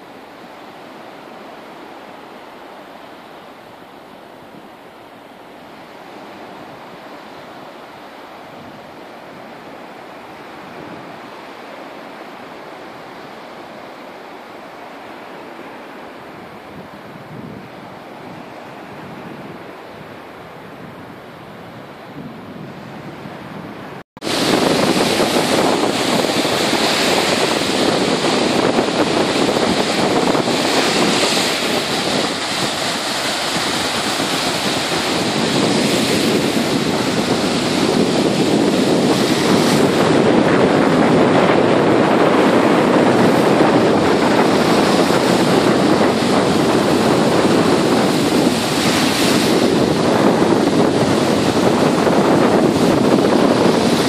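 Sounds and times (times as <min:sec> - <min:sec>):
small waves breaking on beach: 0:00.0 - 0:54.0
wind buffeting microphone: 0:00.0 - 0:54.0.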